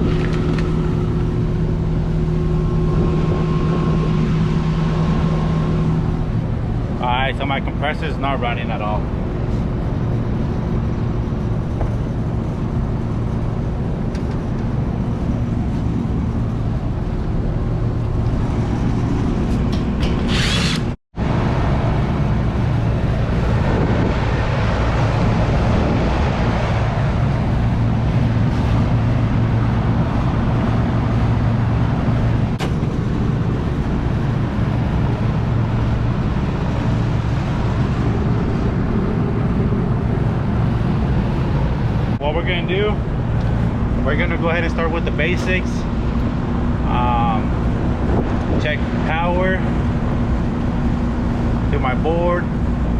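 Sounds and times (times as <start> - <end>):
air conditioner humming: 0.0 - 52.9.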